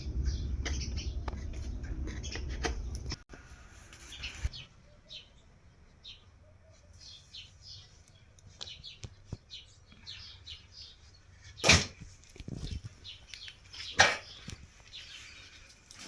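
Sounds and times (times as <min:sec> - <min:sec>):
small birds chirping: 0:00.0 - 0:03.2, 0:04.0 - 0:16.0.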